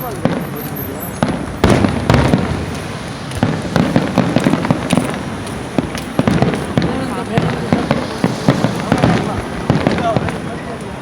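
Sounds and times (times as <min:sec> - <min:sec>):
fireworks bangs: 0:00.0 - 0:11.0
fireworks crackling pops: 0:00.0 - 0:11.0.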